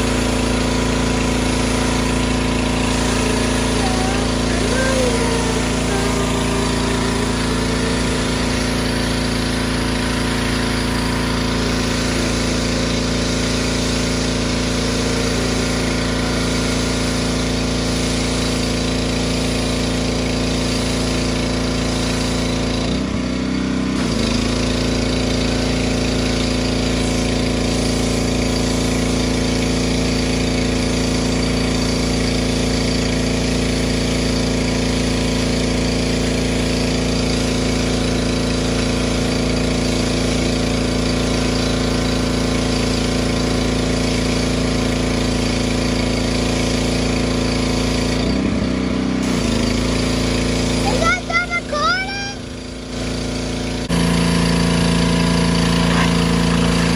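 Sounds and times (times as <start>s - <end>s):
high-pressure spray hissing: 0.0s - 23.1s, 23.9s - 48.4s, 49.2s - 56.9s
small engine running: 0.0s - 56.9s.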